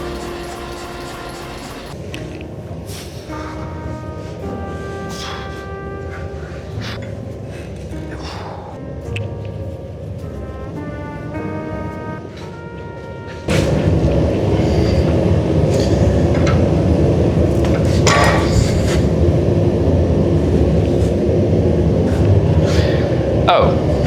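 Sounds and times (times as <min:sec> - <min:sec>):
gas forge burner roaring: 0:00.0 - 0:09.0, 0:11.3 - 0:24.0
music: 0:00.0 - 0:24.0.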